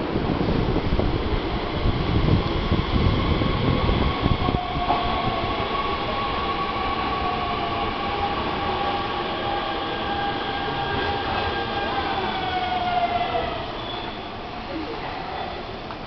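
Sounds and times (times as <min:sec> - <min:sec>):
train high whine: 0:00.0 - 0:16.0
wheels rumbling on rail: 0:00.0 - 0:16.0.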